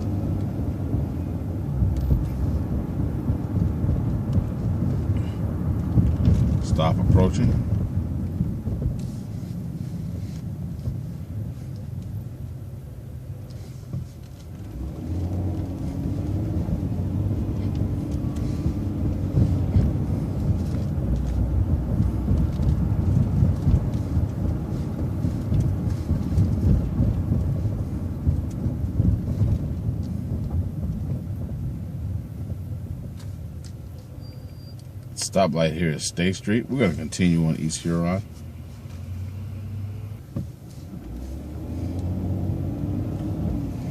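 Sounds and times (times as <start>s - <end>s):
bus engine revving: 0.0s - 33.9s, 36.3s - 43.9s.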